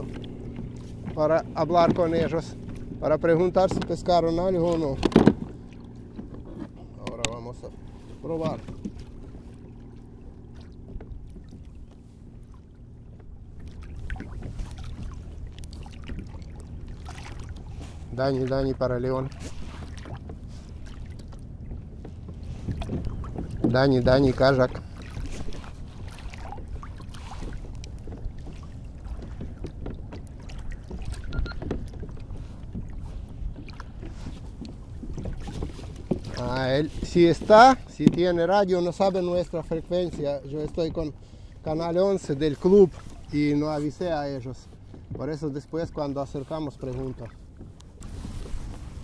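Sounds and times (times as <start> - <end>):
small knocks and splashes: 0.0 - 41.1
low steady rumble: 0.0 - 49.0
water lapping against kayak: 0.0 - 49.0.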